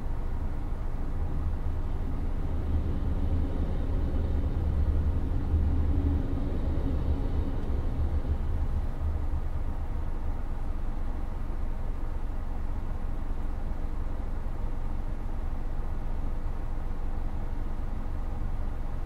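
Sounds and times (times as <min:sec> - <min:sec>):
air conditioning blowing: 0:00.0 - 0:19.0
road and engine rumble in car cabin: 0:00.0 - 0:19.0.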